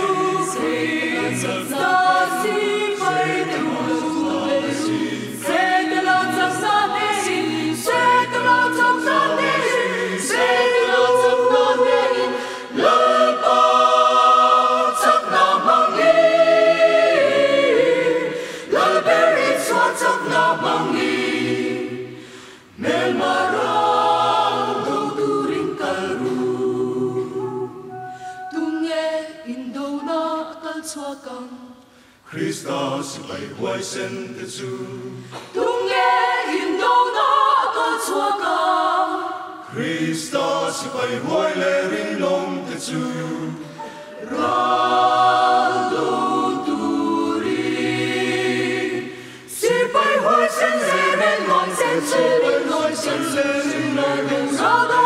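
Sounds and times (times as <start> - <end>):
mixed choir singing unaccompanied: 0.0 - 55.0.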